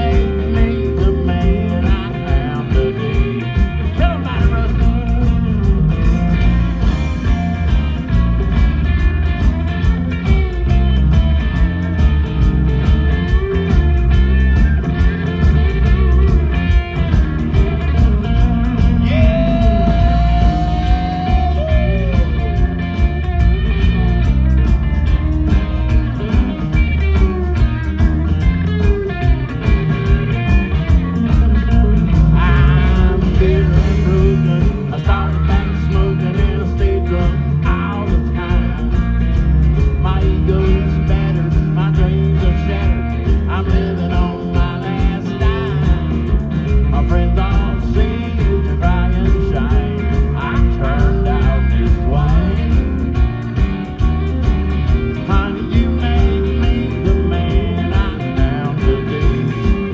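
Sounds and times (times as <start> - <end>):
country-rock band playing: 0.0 - 59.9
lead guitar lines: 0.0 - 59.9.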